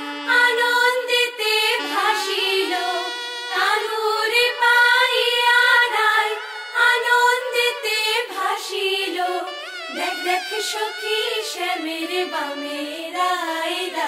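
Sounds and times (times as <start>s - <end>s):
woman singing: 0.3s - 14.0s.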